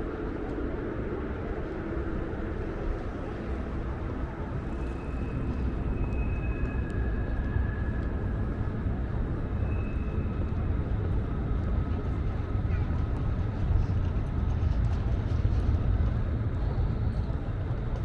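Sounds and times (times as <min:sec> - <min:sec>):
low city rumble: 0:00.0 - 0:18.0.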